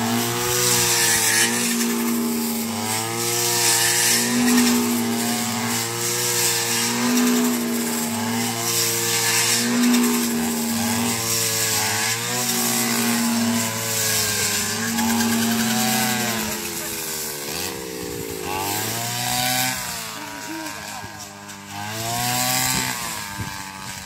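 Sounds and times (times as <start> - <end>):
brush cutter engine at high revs: 0.0 - 24.0.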